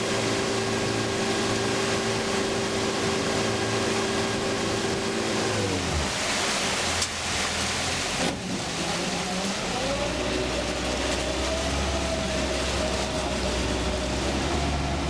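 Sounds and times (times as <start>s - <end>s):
boat motor running: 0.0s - 15.0s
rushing water hiss: 0.0s - 15.0s.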